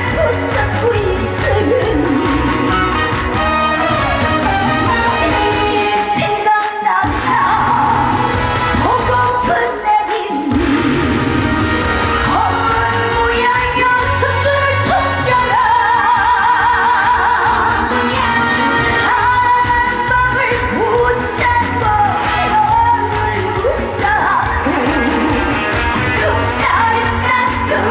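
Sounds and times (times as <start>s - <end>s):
live band playing upbeat music: 0.0s - 27.9s
woman singing with vibrato: 0.0s - 27.9s.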